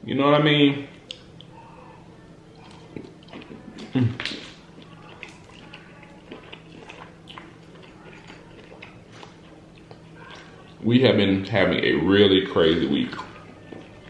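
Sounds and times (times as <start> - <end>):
chewing and wet mouth sounds: 0.9 - 11.6, 12.6 - 14.0.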